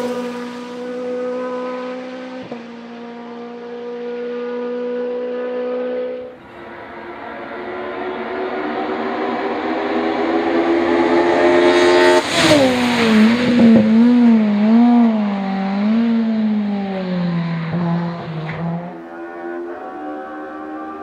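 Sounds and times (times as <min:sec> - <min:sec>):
race car engine at high revs: 0:00.0 - 0:21.0.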